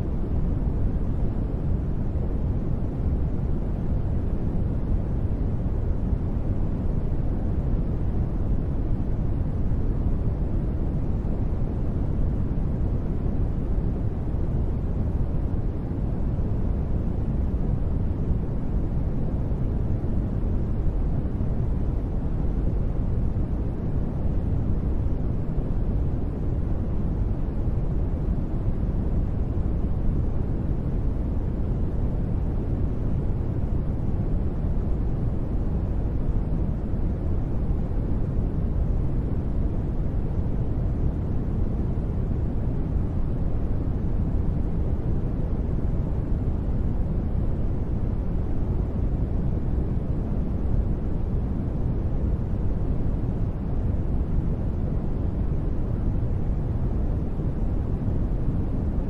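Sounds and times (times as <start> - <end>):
deep steady rumble noise: 0.0 - 59.0.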